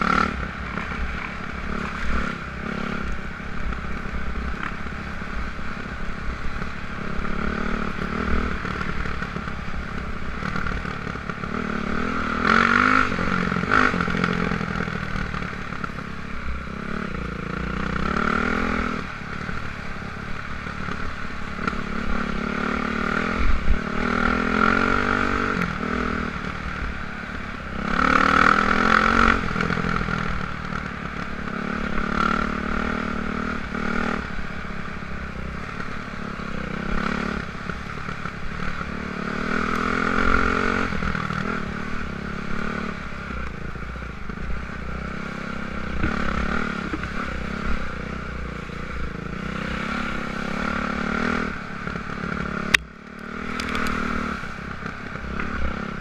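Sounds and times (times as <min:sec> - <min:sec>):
dirt bike engine revving: 0:00.0 - 0:05.5, 0:06.6 - 0:15.9, 0:16.6 - 0:19.6, 0:20.9 - 0:27.0, 0:27.6 - 0:34.4, 0:35.6 - 0:43.6, 0:44.2 - 0:56.0.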